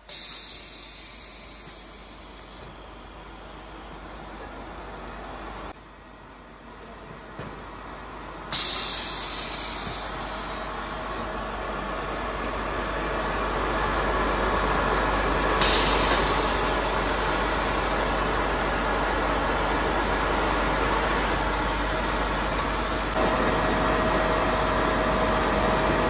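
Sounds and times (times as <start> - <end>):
hot-air blowers hissing: 0.0 - 4.5, 7.6 - 26.0.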